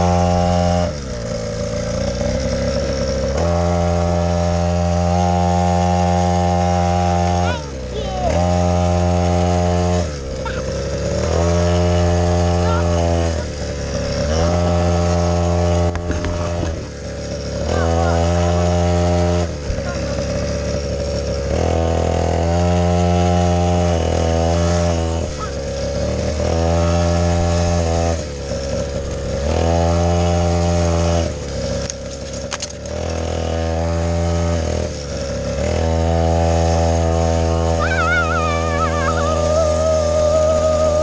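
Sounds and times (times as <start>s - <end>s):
quad bike engine revving: 0.0s - 41.0s.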